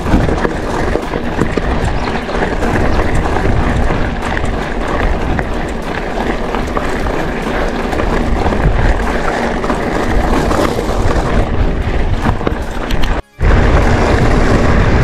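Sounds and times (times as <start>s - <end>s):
bike tyres crunching on gravel: 0.0s - 15.0s
wind buffeting microphone: 0.0s - 15.0s.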